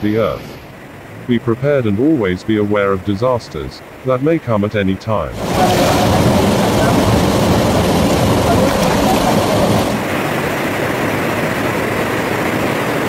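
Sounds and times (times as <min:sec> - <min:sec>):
floodwater rushing down street: 0:00.0 - 0:13.0.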